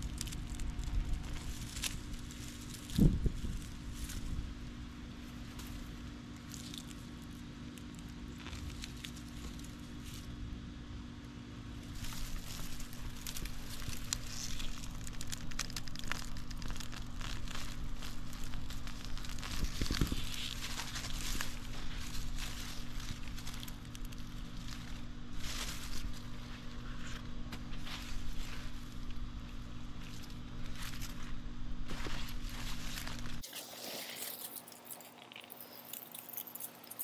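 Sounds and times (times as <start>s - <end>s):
soil crunching: 0.0s - 10.4s, 11.9s - 37.0s
dry foliage crackling and rustling: 0.0s - 37.0s
faint steady hum: 0.0s - 37.0s.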